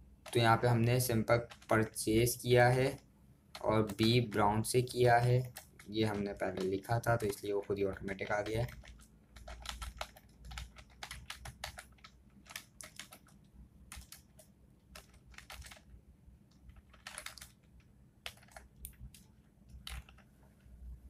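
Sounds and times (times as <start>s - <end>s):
faint keyboard typing: 0.0s - 21.0s.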